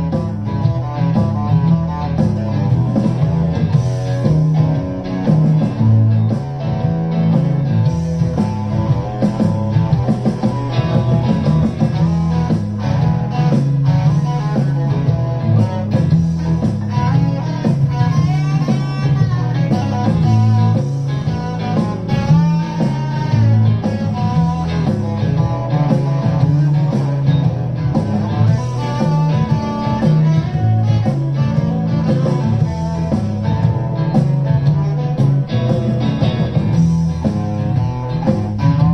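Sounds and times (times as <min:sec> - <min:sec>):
electric guitar through amplifier: 0:00.0 - 0:38.9.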